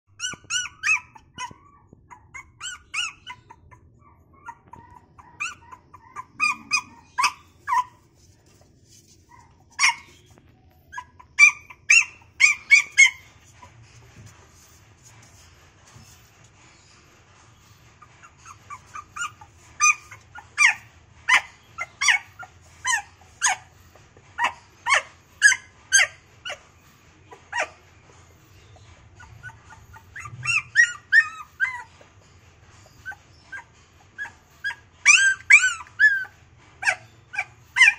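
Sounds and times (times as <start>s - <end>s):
puppy crying in high-pitched yelps: 0.1s - 8.1s, 9.3s - 13.8s, 18.0s - 32.2s, 32.8s - 37.9s.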